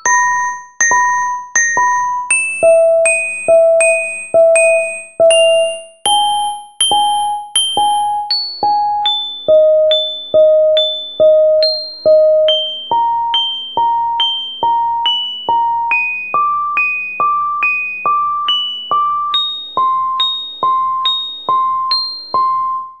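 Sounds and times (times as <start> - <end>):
keyboard tone ringtone melody: 0.0 - 23.0.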